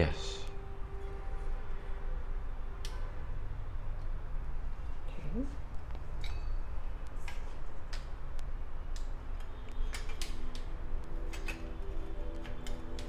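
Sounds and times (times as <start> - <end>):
faint steady tones: 0.0 - 13.0
steady low hum: 0.0 - 13.0.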